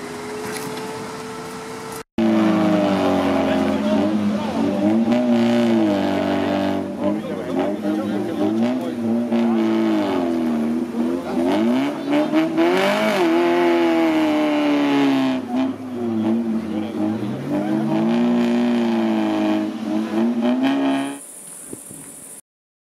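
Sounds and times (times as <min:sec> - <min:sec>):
engine revving hard: 0:02.2 - 0:21.2.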